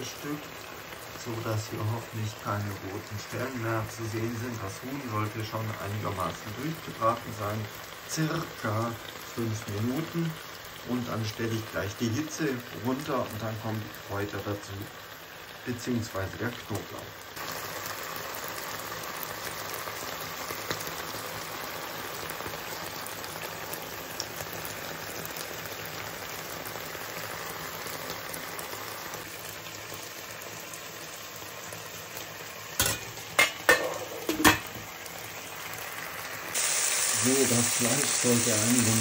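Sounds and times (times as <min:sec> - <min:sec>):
chicken sizzling in a pan: 0:00.0 - 0:39.0.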